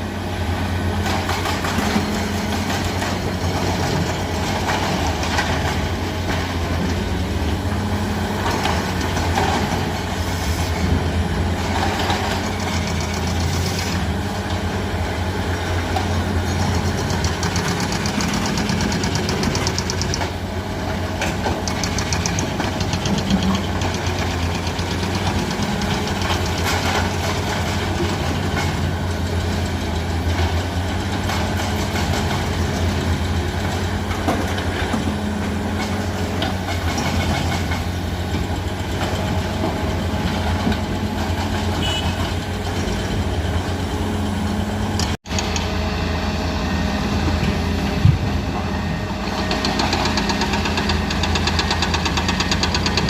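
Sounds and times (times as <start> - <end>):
excavator diesel engine humming: 0.0 - 53.0.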